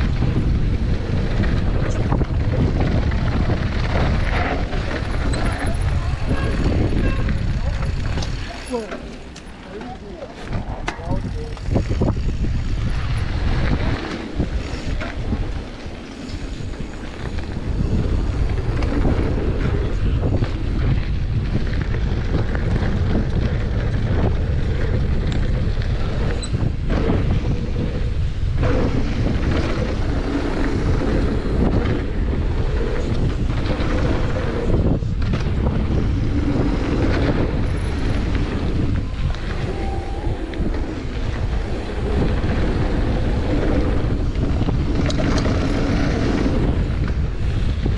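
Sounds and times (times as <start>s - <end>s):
bike knocks and rattles: 0.0s - 39.7s
bike tyres on dirt: 0.0s - 47.9s
wind buffeting microphone: 0.0s - 47.9s.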